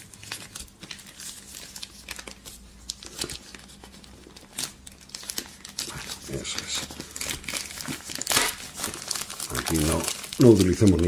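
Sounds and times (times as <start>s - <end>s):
plastic shrink wrap crinkling: 0.0s - 11.0s.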